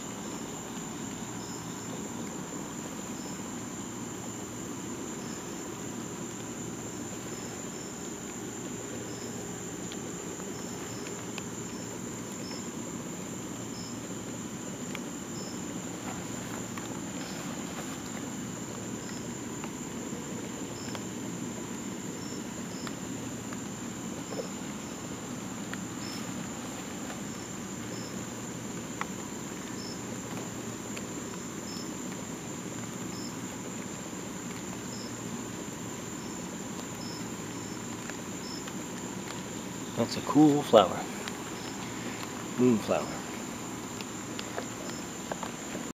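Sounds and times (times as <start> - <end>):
insects trilling and chirping: 0.0 - 45.9.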